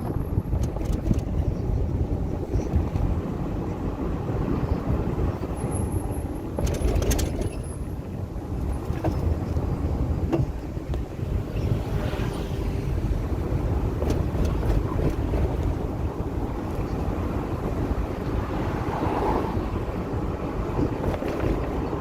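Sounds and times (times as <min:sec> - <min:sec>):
vehicle rumble on road: 0:00.0 - 0:22.0.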